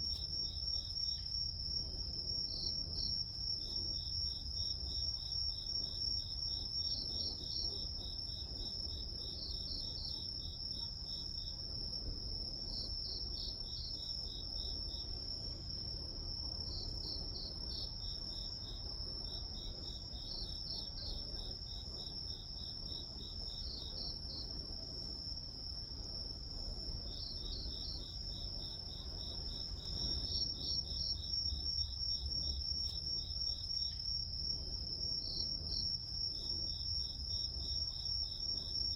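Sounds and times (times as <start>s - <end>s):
insects trilling and chirping: 0.0s - 38.9s.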